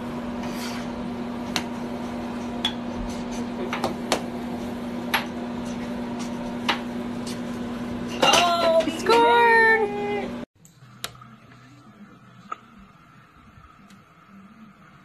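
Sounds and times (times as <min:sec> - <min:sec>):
blower fan humming: 0:00.0 - 0:15.0.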